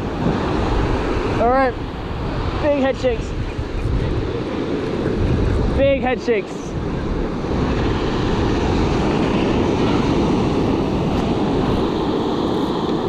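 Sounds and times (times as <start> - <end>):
ocean surf: 0.0 - 13.0
wind rumble on microphone: 0.0 - 13.0.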